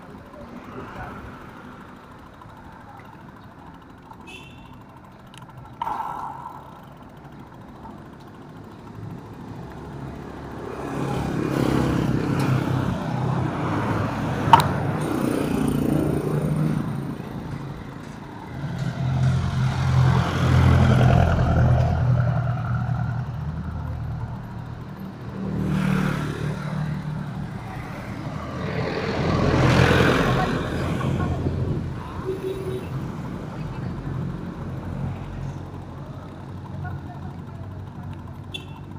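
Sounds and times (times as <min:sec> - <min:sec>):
motor vehicles passing: 0:00.0 - 0:38.9.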